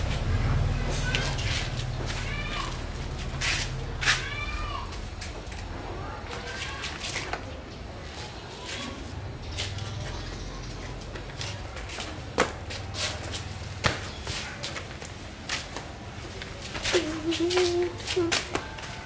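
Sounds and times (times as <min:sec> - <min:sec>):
flip-flop footsteps on concrete: 0:00.0 - 0:19.0.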